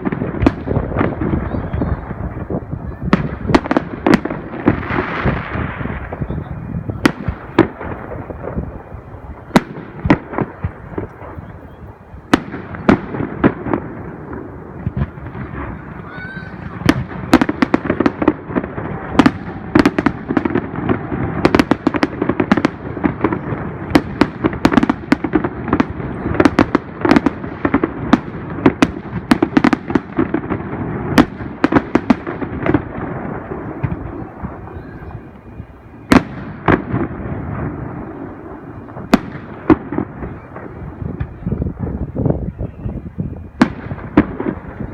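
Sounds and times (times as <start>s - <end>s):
rumble of booms: 0.0s - 44.9s.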